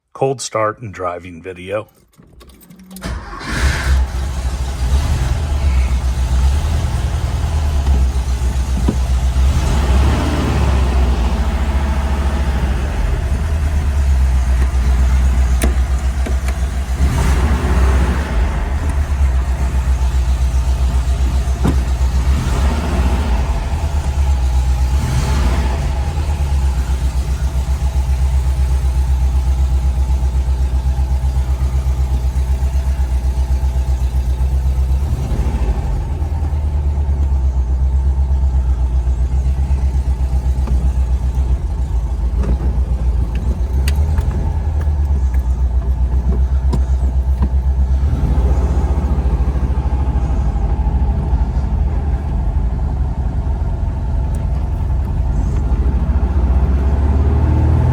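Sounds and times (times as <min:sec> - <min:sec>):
car engine droning: 0:03.0 - 0:57.9.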